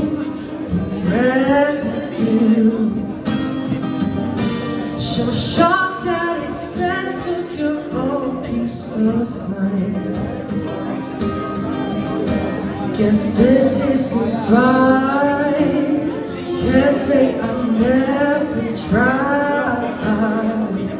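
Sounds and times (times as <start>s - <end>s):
person singing: 0.0s - 3.7s, 4.8s - 11.1s, 12.4s - 20.9s
acoustic guitar strumming: 0.0s - 20.9s.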